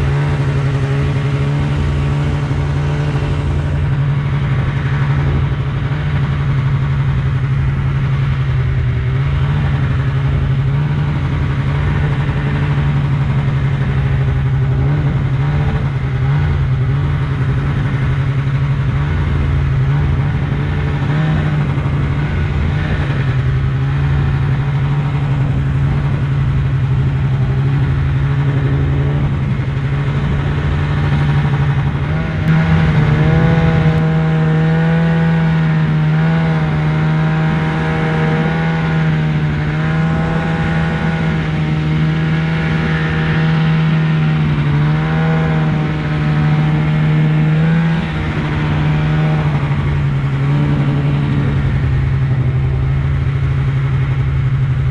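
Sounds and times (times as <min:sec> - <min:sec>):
snowmobile engine revving: 0:00.0 - 0:54.9.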